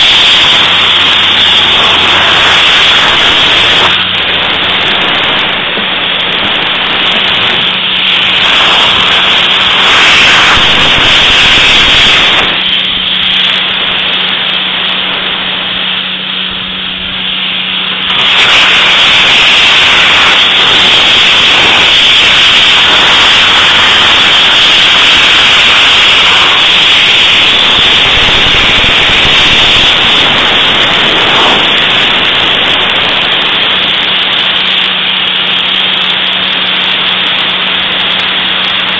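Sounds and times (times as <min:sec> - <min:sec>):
blasting gun hissing: 0:00.0 - 0:38.9
low hum: 0:00.0 - 0:38.9.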